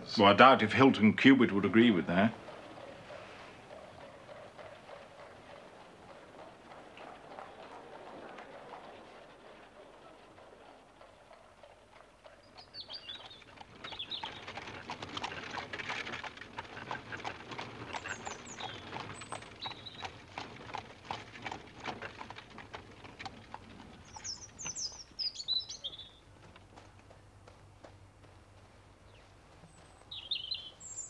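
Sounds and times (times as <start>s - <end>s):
birds chirping: 0.0s - 31.0s
horse hooves clip-clopping on gravel: 0.3s - 30.9s.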